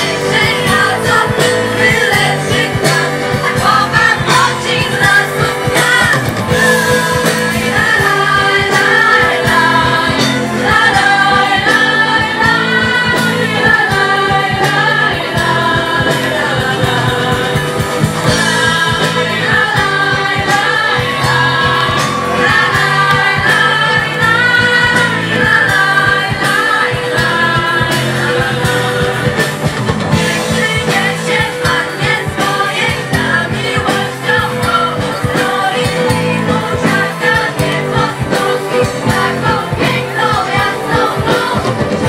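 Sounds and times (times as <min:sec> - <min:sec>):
girls choir singing: 0:00.0 - 0:42.0
live band playing: 0:00.0 - 0:42.0.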